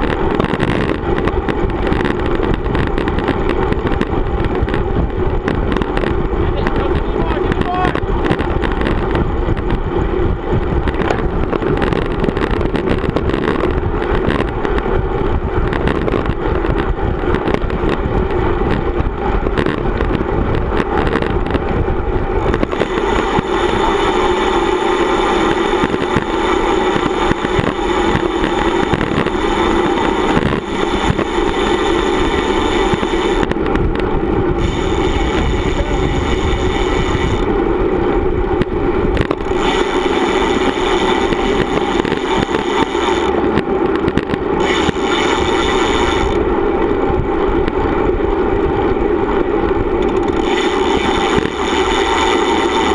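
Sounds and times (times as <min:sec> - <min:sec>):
high whir: 0:00.0 - 0:52.9
tyre noise on asphalt: 0:00.0 - 0:52.9
wind rushing over microphone: 0:00.0 - 0:52.9.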